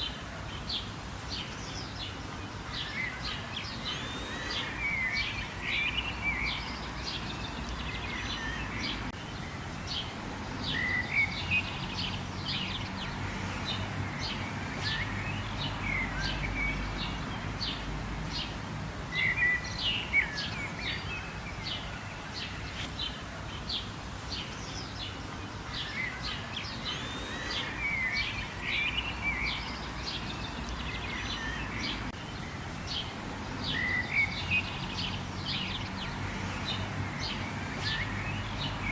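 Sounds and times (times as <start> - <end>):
background hiss: 0.0 - 38.9
birds chirping: 0.0 - 38.9.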